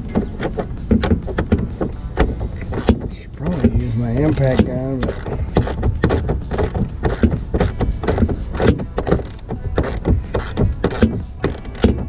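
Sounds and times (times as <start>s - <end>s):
hand ratchet clicking: 0.2s - 12.0s.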